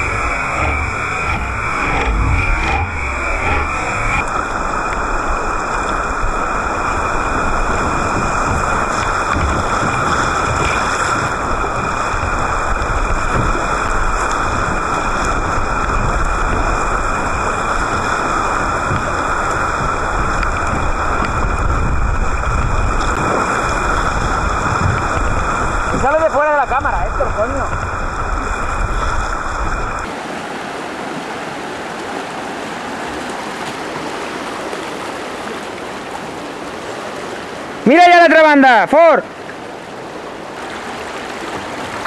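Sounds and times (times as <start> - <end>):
river rapids rushing: 0.0 - 42.0.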